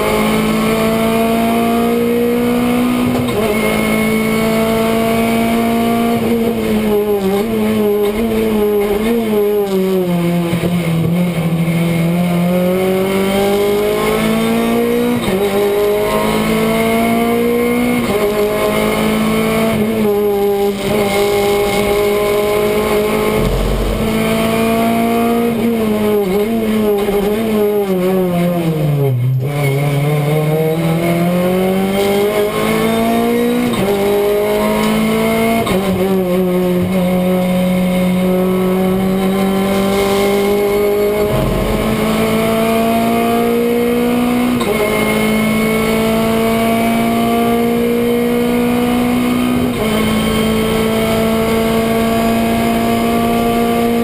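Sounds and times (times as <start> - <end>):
engine upshifts: 0.0 - 54.0
race car engine revving: 0.0 - 54.0.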